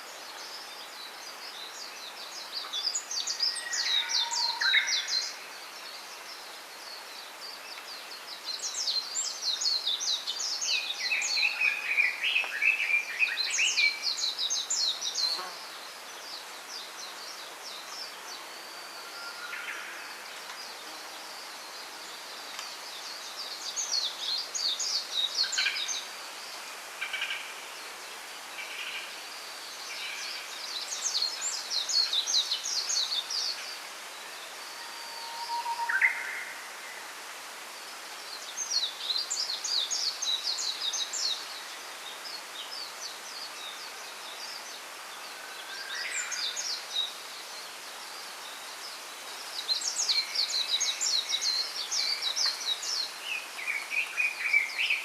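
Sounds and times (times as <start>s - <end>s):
faint background hiss: 0.0s - 55.0s
songbirds twittering: 0.0s - 55.0s.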